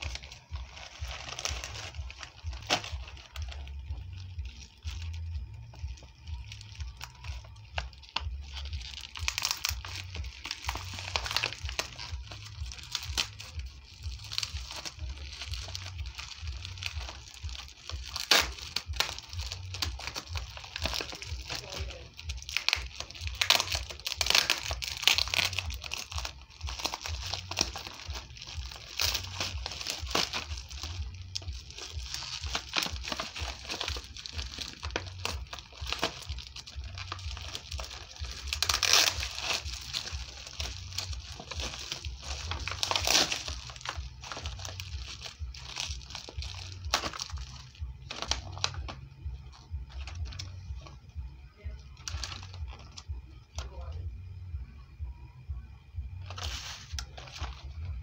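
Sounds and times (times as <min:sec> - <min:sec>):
plastic packaging crinkling: 0:00.0 - 0:54.0, 0:56.2 - 0:58.0.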